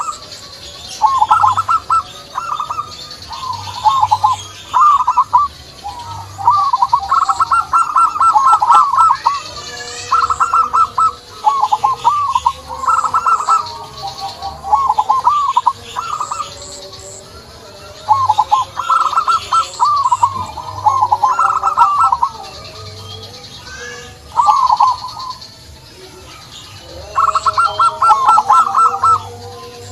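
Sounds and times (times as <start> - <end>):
doves calling: 0.0 - 29.9
faint high bird chirping: 0.0 - 29.9.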